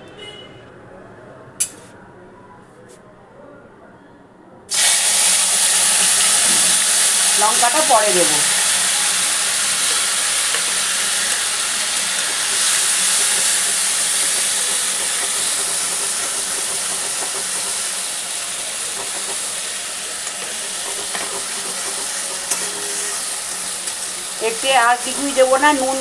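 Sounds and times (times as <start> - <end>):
food sizzling in hot oil: 4.7 - 26.0.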